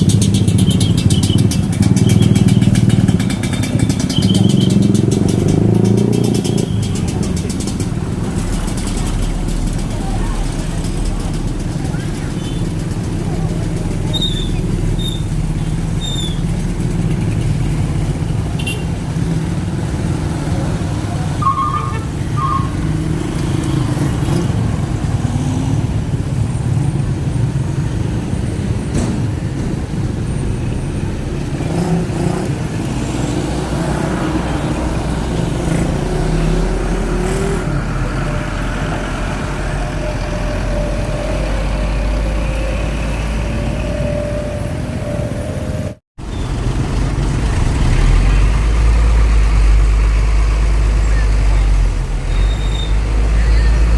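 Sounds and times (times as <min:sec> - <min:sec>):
truck and car engines running: 0:00.0 - 0:53.9.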